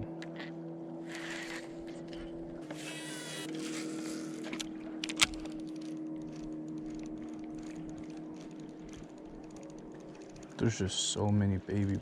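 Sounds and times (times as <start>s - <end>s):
motorboat engine hum: 0.0s - 12.0s.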